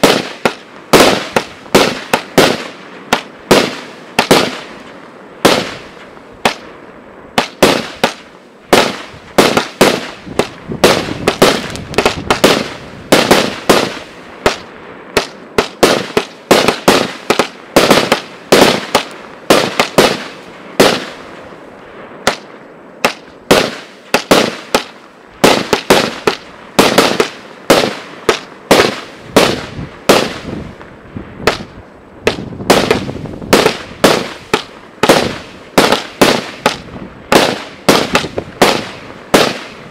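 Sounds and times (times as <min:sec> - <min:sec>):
firework cake bangs: 0:00.0 - 0:04.8, 0:05.4 - 0:06.7, 0:07.4 - 0:21.2, 0:22.2 - 0:30.8, 0:31.4 - 0:39.9.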